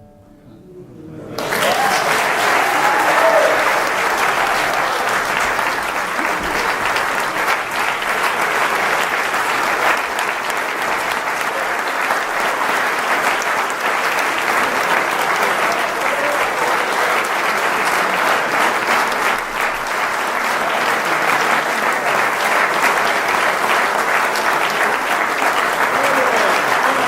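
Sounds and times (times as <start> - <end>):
audience applauding: 1.3 - 27.0.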